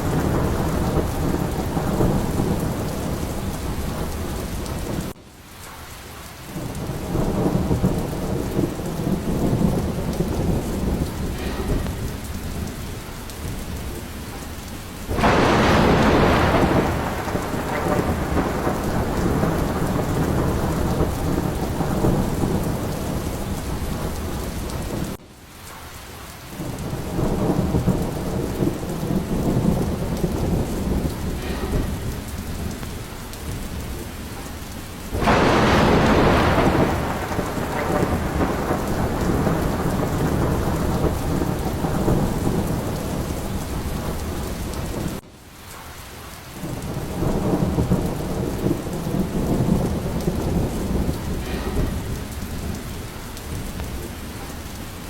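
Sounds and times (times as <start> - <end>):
loud thunderclap: 0.0 - 5.2, 6.6 - 25.2, 26.6 - 45.2, 46.6 - 55.0
rolling thunder: 0.0 - 5.2, 6.5 - 25.2, 26.5 - 45.2, 46.6 - 55.0
steady rain: 0.0 - 55.0.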